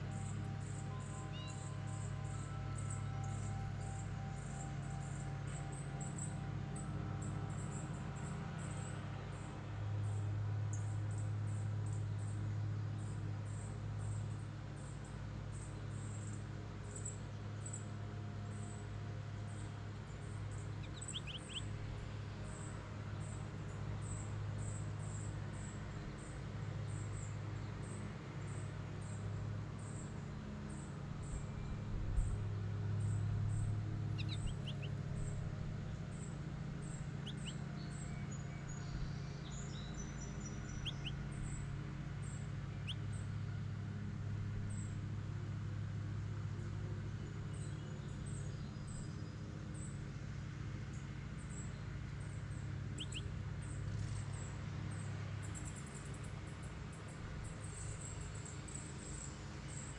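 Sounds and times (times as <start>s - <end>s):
steady low hum: 0.0s - 50.1s.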